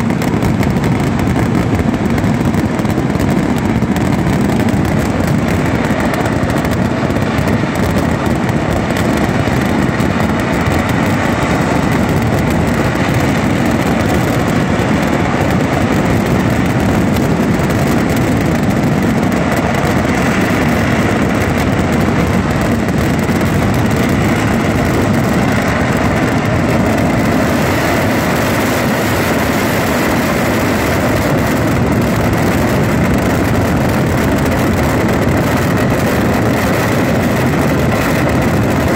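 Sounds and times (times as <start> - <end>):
firecracker explosions barrage: 0.0 - 38.9.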